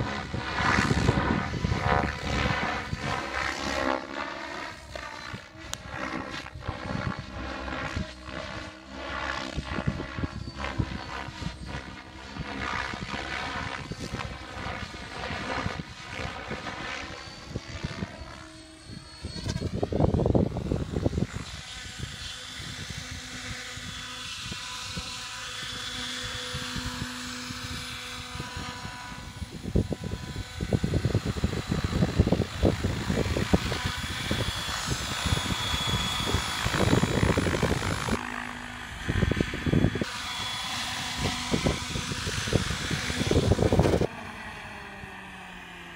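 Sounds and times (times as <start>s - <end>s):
model helicopter rotor whining: 0.0s - 45.9s.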